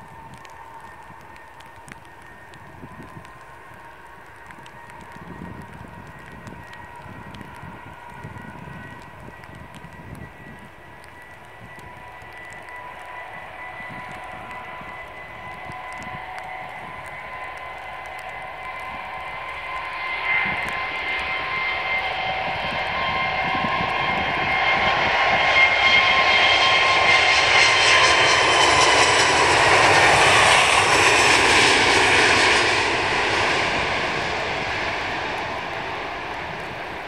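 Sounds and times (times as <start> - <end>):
jet engines whining at takeoff: 0.0 - 37.0.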